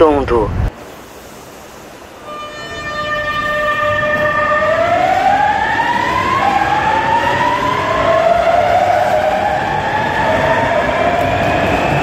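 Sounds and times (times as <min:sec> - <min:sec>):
train motor whine: 0:02.0 - 0:12.0.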